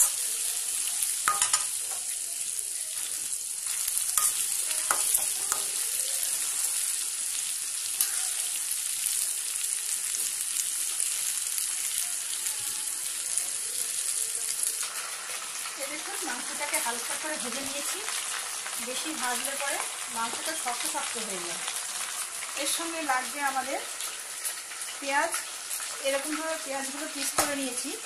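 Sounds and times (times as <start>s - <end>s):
chicken sizzling in oil: 0.0s - 28.0s.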